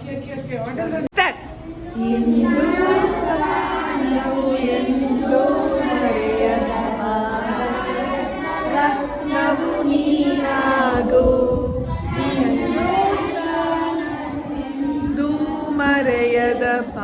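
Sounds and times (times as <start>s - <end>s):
children's choir singing: 1.6s - 17.0s.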